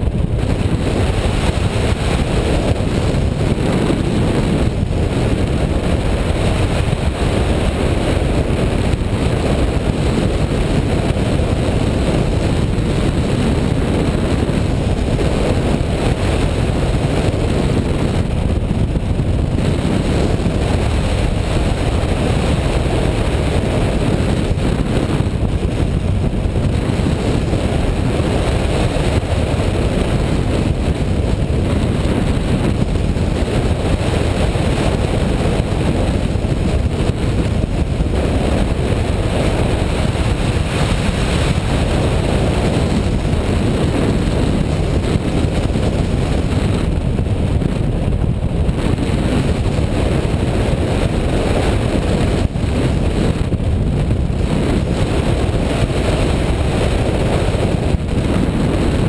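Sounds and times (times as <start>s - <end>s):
airflow buffeting microphone: 0.0s - 59.0s.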